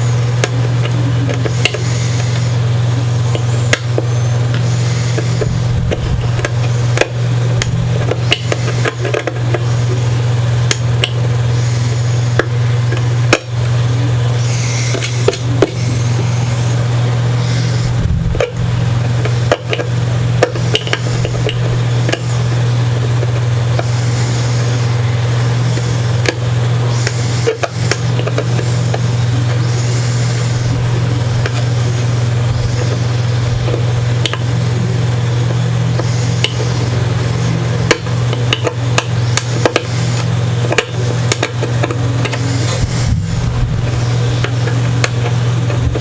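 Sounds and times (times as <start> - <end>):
loud low hum: 0.0 - 46.0.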